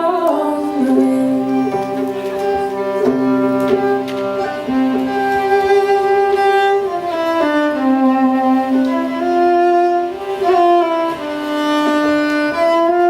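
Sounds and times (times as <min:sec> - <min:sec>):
fiddle playing bowed notes: 0:00.0 - 0:13.0.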